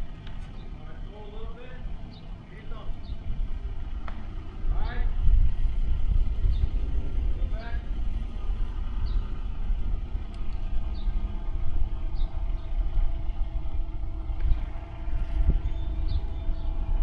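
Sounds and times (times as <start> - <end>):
aerial lift engine rumble: 0.0 - 17.0.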